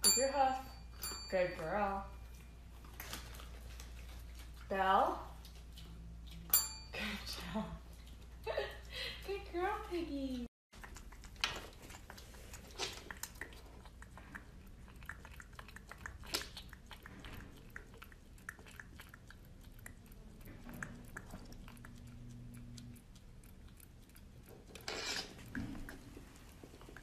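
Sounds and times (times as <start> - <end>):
piglet chewing and smacking: 2.1 - 27.0.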